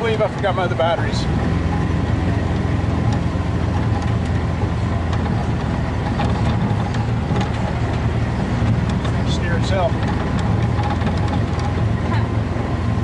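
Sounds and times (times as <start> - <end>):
knocks and rattles: 0.0 - 12.8
low engine rumble: 0.0 - 13.0.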